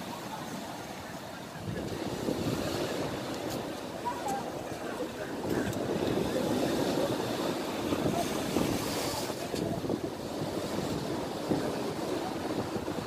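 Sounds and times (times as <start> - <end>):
sea waves splashing against a wall: 0.0 - 13.0
wind buffeting microphone: 0.0 - 13.0.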